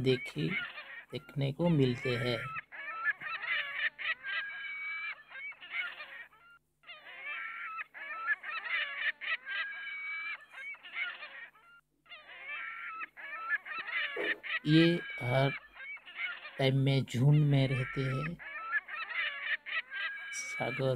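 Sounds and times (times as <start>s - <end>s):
flock of flamingos calling: 1.9s - 20.9s.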